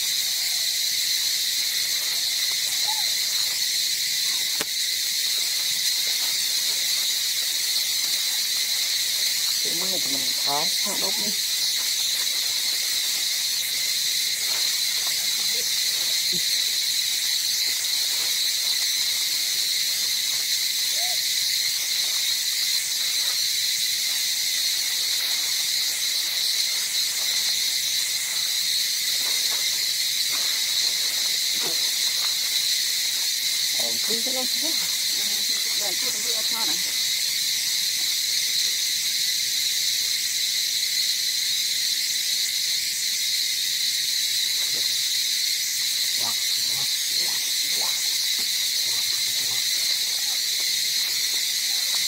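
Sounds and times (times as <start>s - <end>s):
high-pitched insect chorus: 0.0s - 52.0s.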